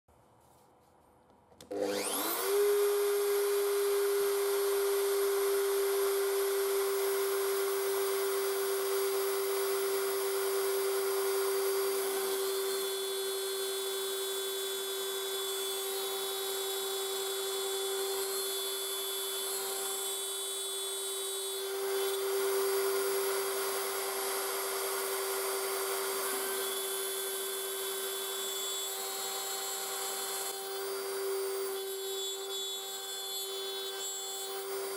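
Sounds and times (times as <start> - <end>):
end mill cutting plywood: 1.6 - 34.9
router spindle whine: 1.6 - 34.9.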